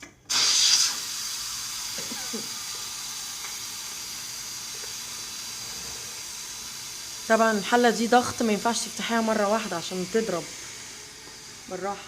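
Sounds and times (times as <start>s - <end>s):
pressure cooker steam hissing: 0.3s - 12.0s.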